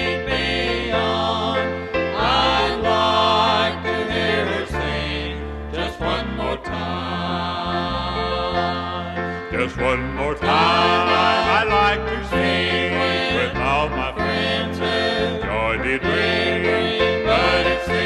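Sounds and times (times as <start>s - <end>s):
band playing: 0.0s - 18.0s
bass notes: 0.0s - 18.0s
voices singing gospel: 0.0s - 18.0s.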